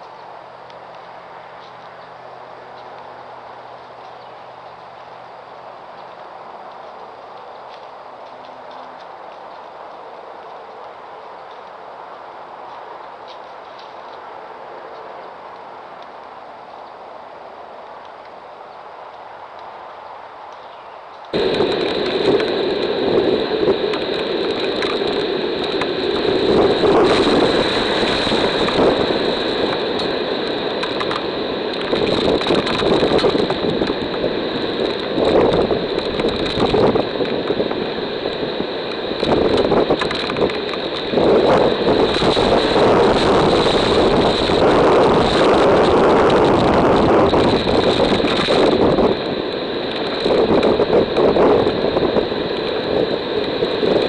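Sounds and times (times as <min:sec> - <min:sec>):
strong wind and rain: 0:00.0 - 0:54.0.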